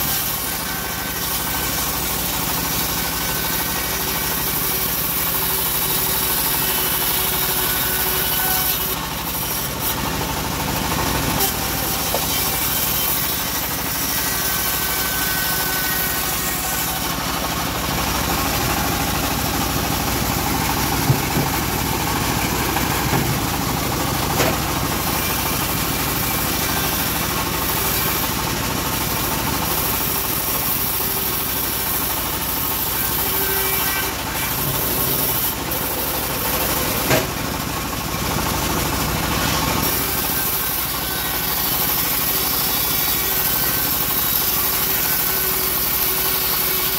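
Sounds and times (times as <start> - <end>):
bandsaw mill droning: 0.0 - 46.9.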